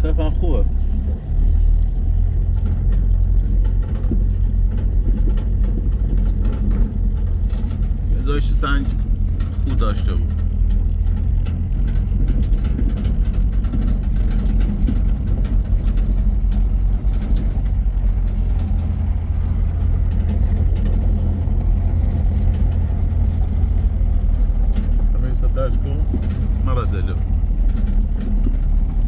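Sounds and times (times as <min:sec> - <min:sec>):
vehicle engine running: 0:00.0 - 0:29.0
small clicks and knocks: 0:01.8 - 0:29.0.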